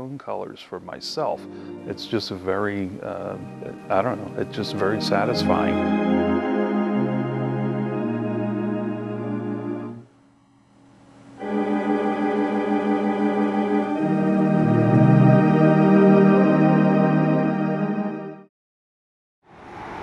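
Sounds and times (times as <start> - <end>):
pipe organ chords with bass: 0.0 - 10.2, 11.3 - 18.5.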